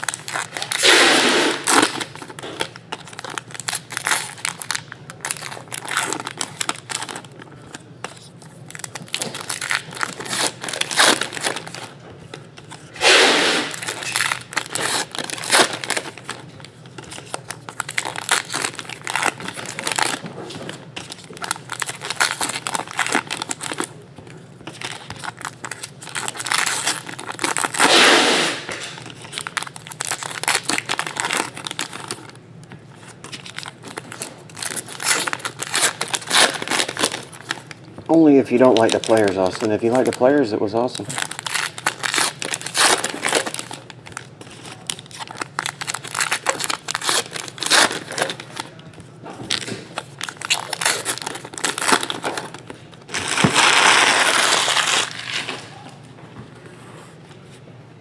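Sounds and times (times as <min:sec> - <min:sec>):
wrapper crinkling: 0:00.0 - 0:12.0, 0:12.6 - 0:56.0
card packs being torn open: 0:00.0 - 0:32.4, 0:33.1 - 0:55.8.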